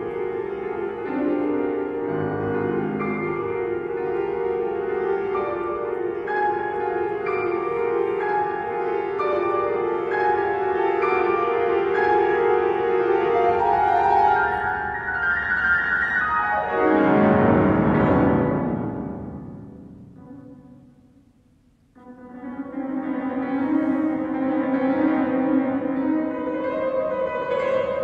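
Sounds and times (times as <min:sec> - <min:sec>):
grand piano playing classical music: 0:00.0 - 0:28.0.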